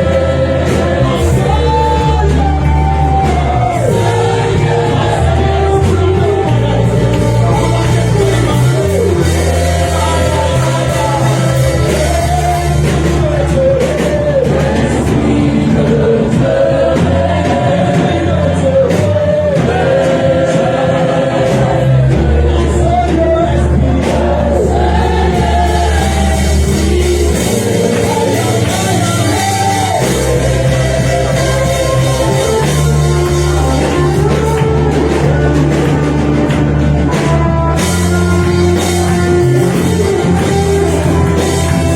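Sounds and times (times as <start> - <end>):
band playing gospel music: 0.0 - 41.9
bass line long notes: 0.0 - 41.9
group of voices singing: 0.0 - 41.9.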